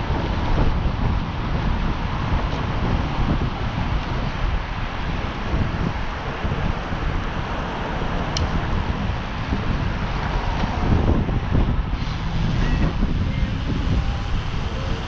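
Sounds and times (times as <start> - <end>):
road and traffic rumble: 0.0 - 15.0
wind rushing over microphone: 0.0 - 15.0.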